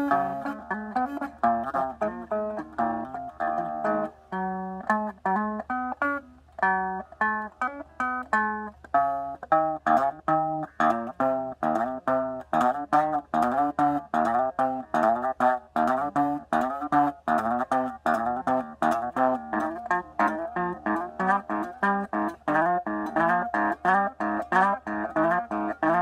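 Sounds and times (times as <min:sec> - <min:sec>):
electric guitar picked notes: 0:00.0 - 0:26.0.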